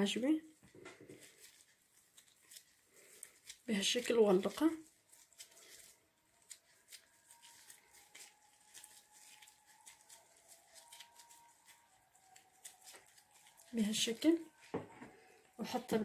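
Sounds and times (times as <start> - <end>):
gloved hands pinching dough: 0.5 - 15.6.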